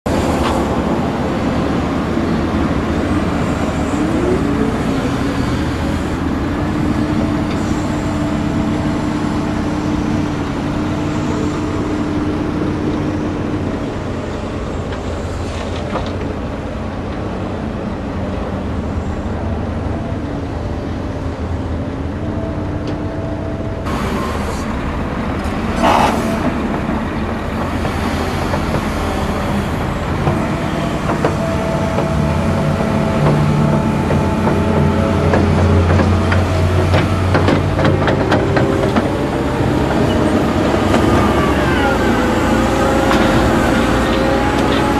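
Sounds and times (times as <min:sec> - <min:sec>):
heavy diesel machinery rumbling: 0:00.1 - 0:44.9.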